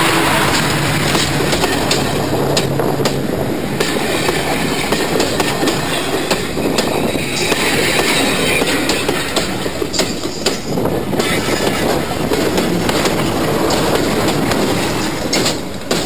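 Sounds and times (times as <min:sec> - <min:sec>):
diesel locomotive rumbling: 0:00.0 - 0:16.0
wheels clicking over rail joints: 0:00.0 - 0:16.0.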